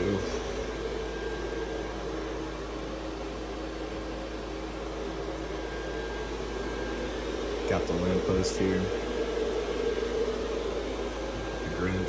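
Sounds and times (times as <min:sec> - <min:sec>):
blower fan whirring: 0:00.0 - 0:12.0.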